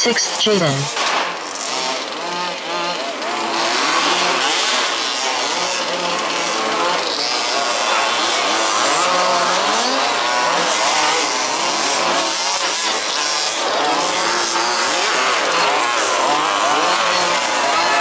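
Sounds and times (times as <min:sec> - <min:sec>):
small two-stroke engines revving: 0:00.0 - 0:18.0.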